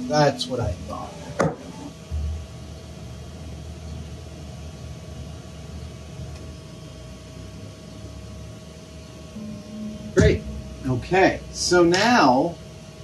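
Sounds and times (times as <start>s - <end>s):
small fan whining over low hum: 0.0s - 13.0s.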